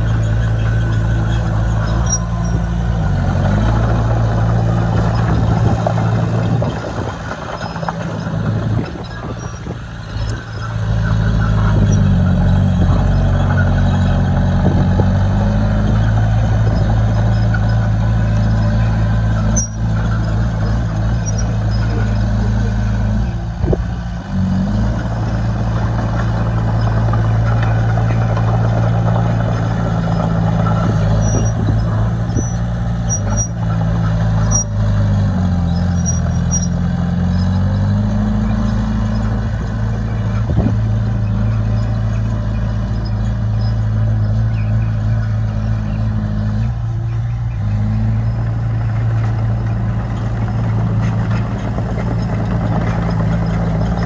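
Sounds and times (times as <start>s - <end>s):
heavy equipment diesel engine: 0.0s - 54.0s.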